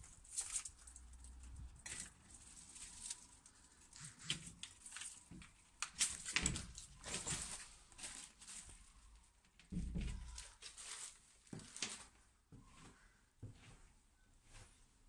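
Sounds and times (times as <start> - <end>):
clothing rustle: 0.0 - 15.0.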